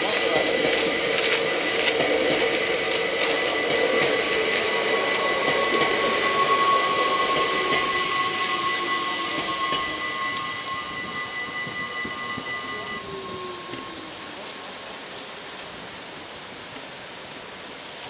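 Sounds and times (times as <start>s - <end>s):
crossing warning bells ringing: 0.0s - 16.1s
electric train passing: 0.0s - 18.0s.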